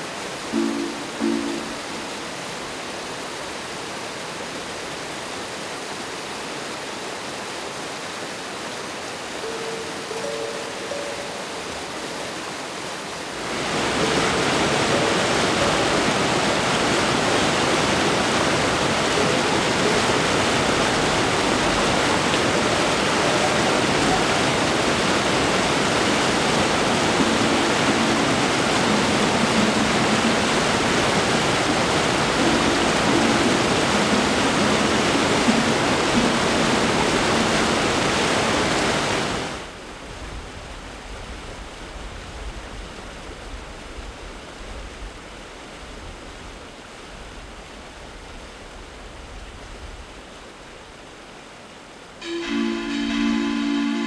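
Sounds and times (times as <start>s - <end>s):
water rushing over waterfall: 0.0s - 54.0s.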